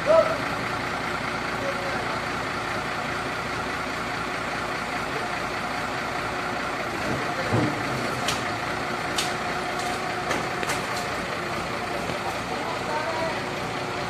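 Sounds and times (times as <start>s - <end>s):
forklift engine idling: 0.0s - 14.0s.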